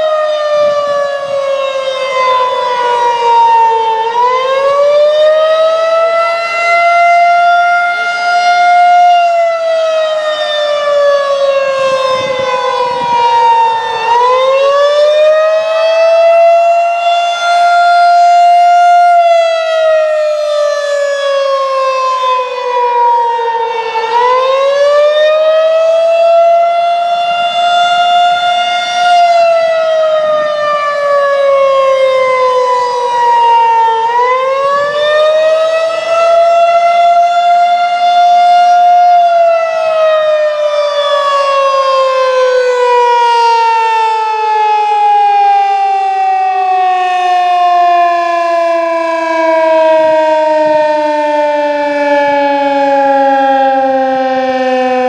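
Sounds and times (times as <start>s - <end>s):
outdoor warning siren wailing: 0.0s - 55.0s.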